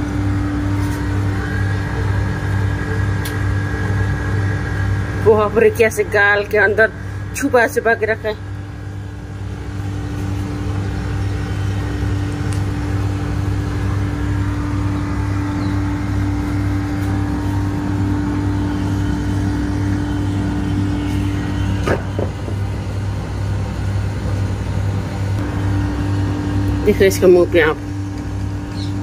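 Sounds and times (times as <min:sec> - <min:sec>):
low mechanical motor hum: 0:00.0 - 0:29.0.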